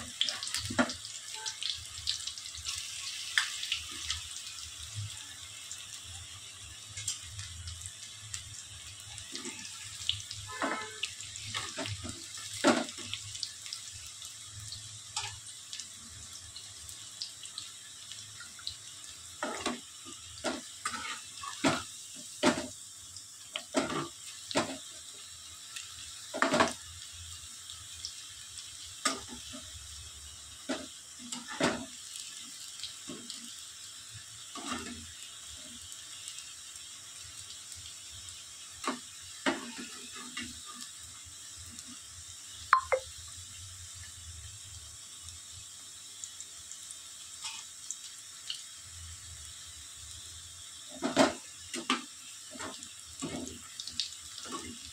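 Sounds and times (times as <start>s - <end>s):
food deep-frying in oil: 0.0s - 54.9s.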